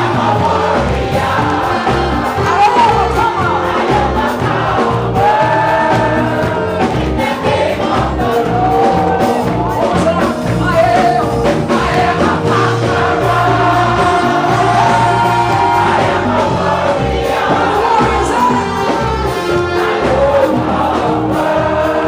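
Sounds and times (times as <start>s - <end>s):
choir and congregation singing: 0.0s - 22.0s
instrumental backing with bass: 0.0s - 22.0s.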